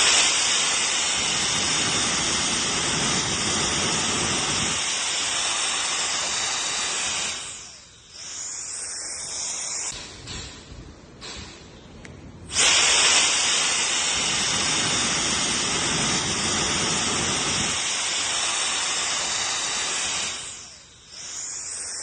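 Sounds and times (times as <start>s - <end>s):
jet blower rushing air: 0.0s - 9.9s, 12.5s - 22.0s.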